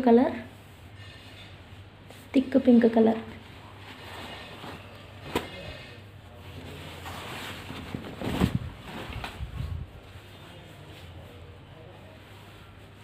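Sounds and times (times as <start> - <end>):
cloth rustling: 0.4 - 11.4.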